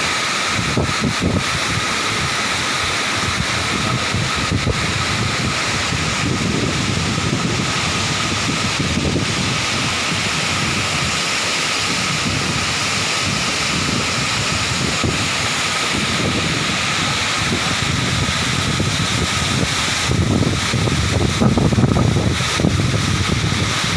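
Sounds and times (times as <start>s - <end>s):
steady rushing noise: 0.0s - 23.9s
wind buffeting microphone: 0.0s - 23.9s.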